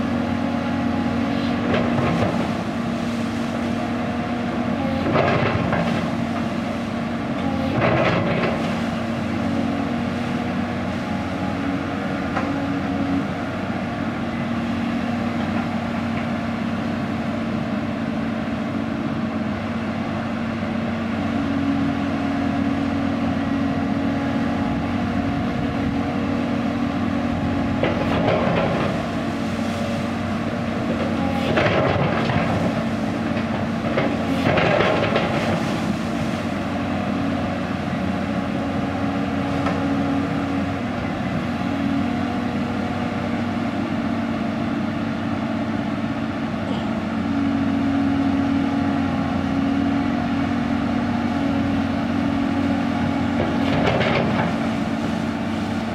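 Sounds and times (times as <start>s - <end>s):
diesel excavator engine running: 0.0s - 55.9s
hydraulics working: 0.0s - 55.9s.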